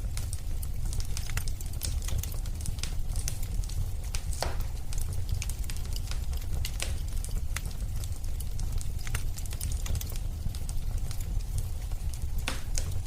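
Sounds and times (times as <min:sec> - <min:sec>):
fire crackling and popping: 0:00.0 - 0:13.0
low fire rumble: 0:00.0 - 0:13.0.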